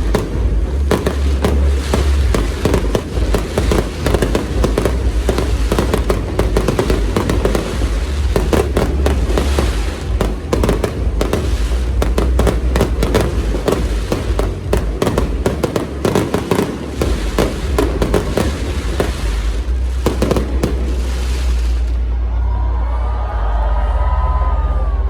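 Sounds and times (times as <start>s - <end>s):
fireworks bangs and crackles: 0.0s - 22.2s
continuous low rumble: 0.0s - 25.0s.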